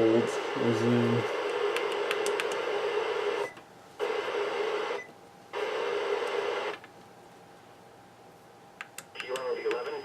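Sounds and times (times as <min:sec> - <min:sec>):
faint radio hiss: 0:00.0 - 0:01.8, 0:02.6 - 0:10.0.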